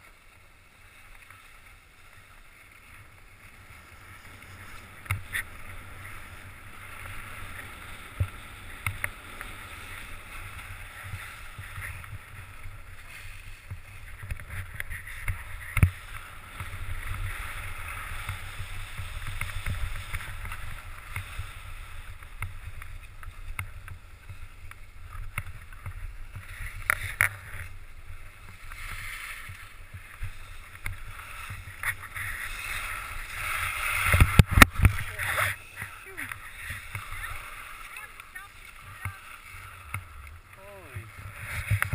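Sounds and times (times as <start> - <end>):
skis scraping over snow: 0.0 - 41.9.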